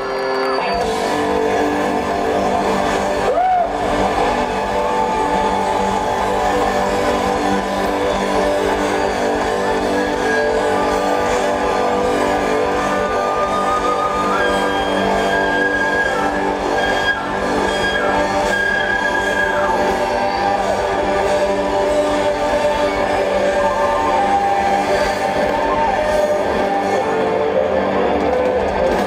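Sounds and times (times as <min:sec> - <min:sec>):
live band playing loudly: 0:00.0 - 0:29.0.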